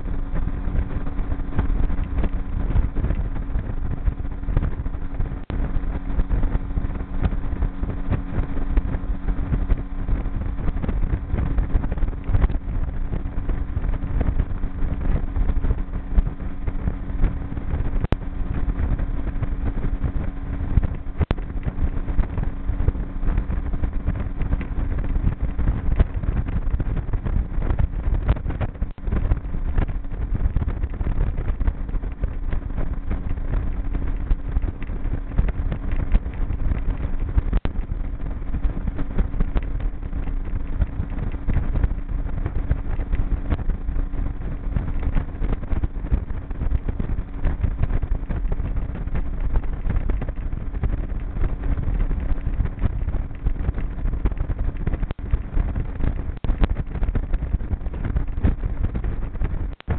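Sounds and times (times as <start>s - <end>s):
outboard motor drone: 0.0s - 59.9s
wind and water rushing: 0.0s - 59.9s.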